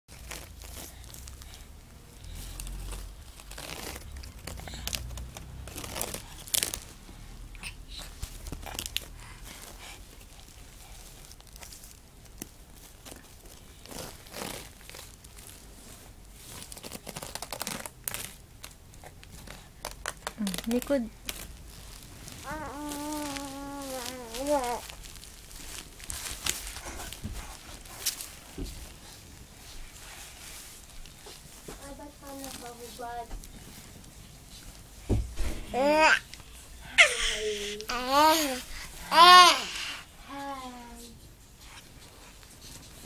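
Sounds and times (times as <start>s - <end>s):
rustling and crinkling: 0.1s - 43.0s.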